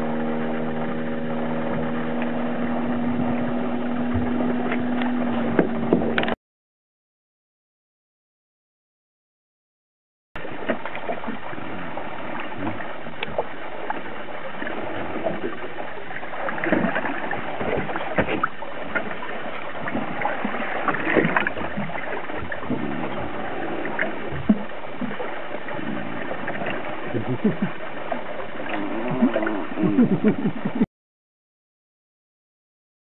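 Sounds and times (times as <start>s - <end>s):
boat rushing noise: 0.0s - 6.4s, 10.4s - 30.9s
water splashes and knocks: 0.0s - 6.4s, 10.4s - 30.8s.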